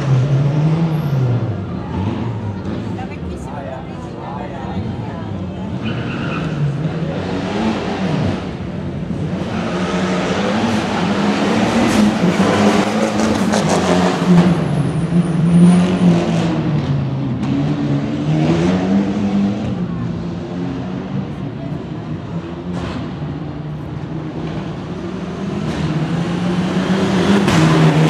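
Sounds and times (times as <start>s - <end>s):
rally car engine revving: 0.0s - 3.4s, 4.7s - 28.0s.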